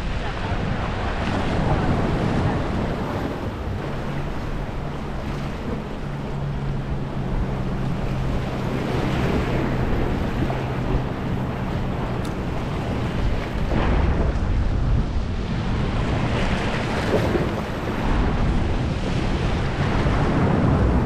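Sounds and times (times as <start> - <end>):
boat engine hum: 0.0 - 21.0
washing surf: 0.0 - 21.0
wind on the microphone: 0.0 - 21.0.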